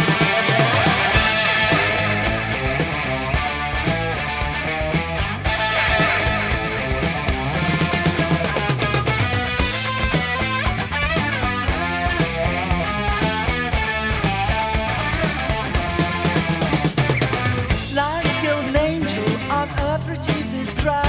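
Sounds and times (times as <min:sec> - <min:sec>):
bass guitar: 0:00.0 - 0:21.0
drum kit: 0:00.0 - 0:21.0
electric lead guitar: 0:00.0 - 0:21.0.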